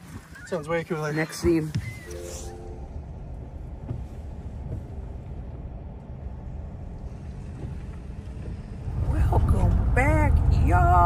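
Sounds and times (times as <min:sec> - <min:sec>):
road and engine noise in cab: 0:00.0 - 0:11.0.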